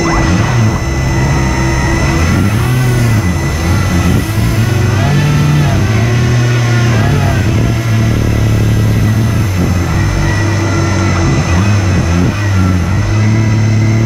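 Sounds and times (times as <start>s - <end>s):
electric ducted fans whirring: 0.0s - 14.0s.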